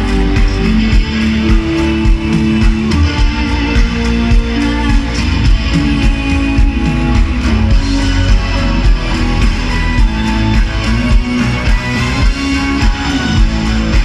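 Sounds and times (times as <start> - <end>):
bass guitar: 0.0 - 14.0
steady drum beat: 0.0 - 14.0
strummed electric guitar: 0.0 - 14.0.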